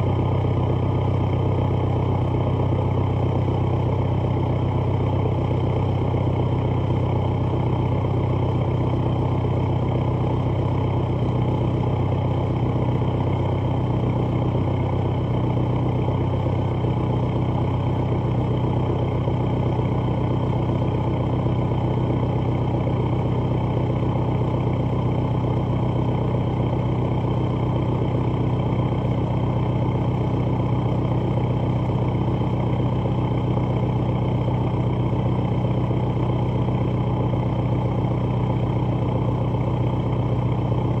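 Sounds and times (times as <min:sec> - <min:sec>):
diesel car engine idling: 0:00.0 - 0:41.0.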